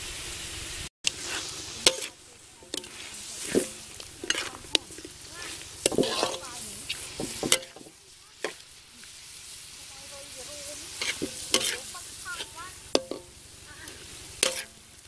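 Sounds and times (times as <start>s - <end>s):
meat sizzling: 0.0s - 15.0s
metal spatula scraping a wok: 1.1s - 15.0s.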